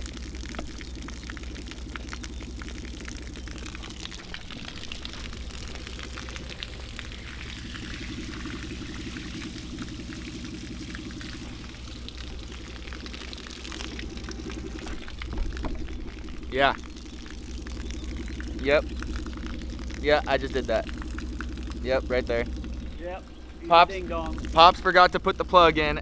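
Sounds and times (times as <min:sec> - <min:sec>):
steady low hum: 0:00.0 - 0:26.0
water pouring and splashing: 0:00.0 - 0:26.0.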